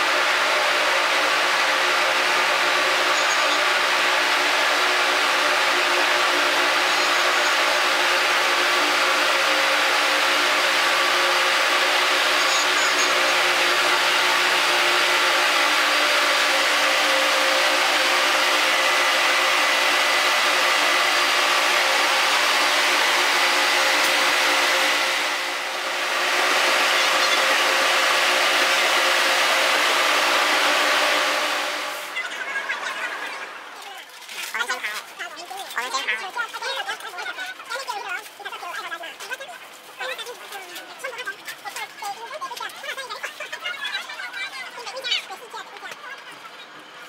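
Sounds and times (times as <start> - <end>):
train running: 0.0 - 47.0.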